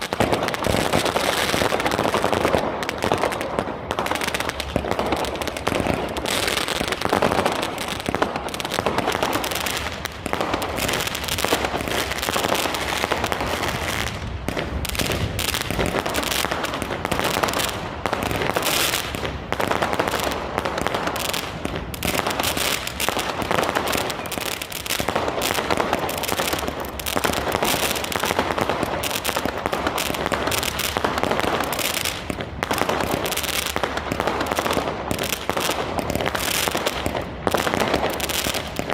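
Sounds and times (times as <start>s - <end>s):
fireworks cracking and popping: 0.0s - 38.9s.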